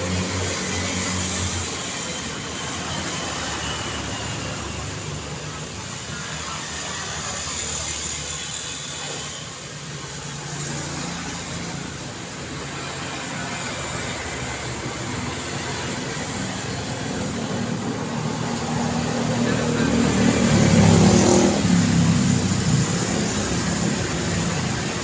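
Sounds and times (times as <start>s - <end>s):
passing vehicles and tyres: 0.0s - 25.0s.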